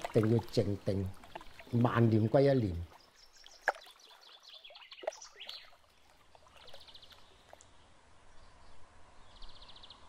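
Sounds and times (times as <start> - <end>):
birds chirping: 0.1 - 10.0.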